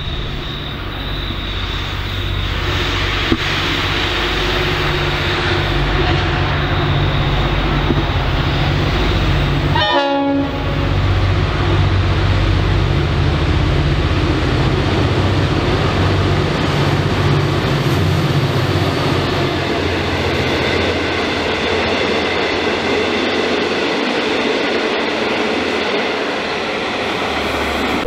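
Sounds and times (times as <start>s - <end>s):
diesel locomotive engine drone: 0.0s - 28.0s
train wheels rolling on rails: 0.0s - 28.0s.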